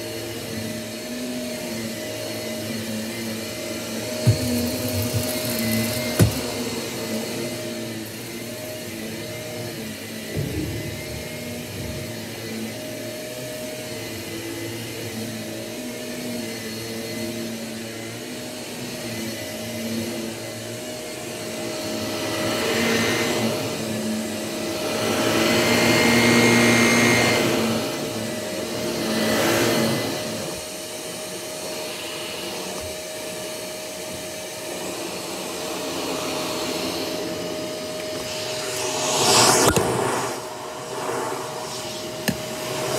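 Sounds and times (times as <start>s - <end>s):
vacuum cleaner running on carpet: 0.0s - 42.9s.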